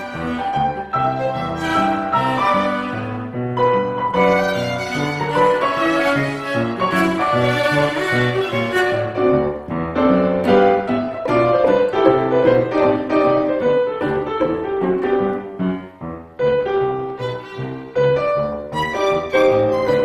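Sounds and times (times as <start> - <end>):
grand piano run of notes: 0.0 - 20.0
piano trio playing: 0.0 - 20.0.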